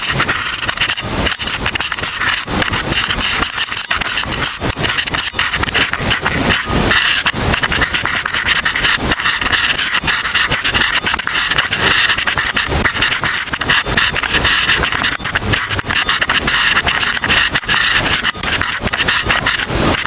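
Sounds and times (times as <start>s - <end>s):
pencil scratching on paper: 0.0s - 20.0s.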